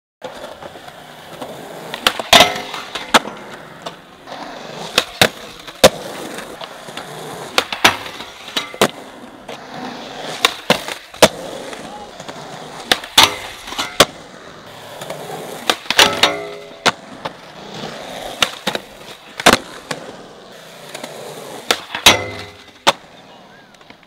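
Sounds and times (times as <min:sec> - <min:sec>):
skateboard tail pops and landings: 0:00.2 - 0:20.2, 0:20.8 - 0:24.0
skateboard trucks grinding metal rail: 0:00.2 - 0:23.9
skateboard wheels rolling on concrete: 0:00.2 - 0:24.0.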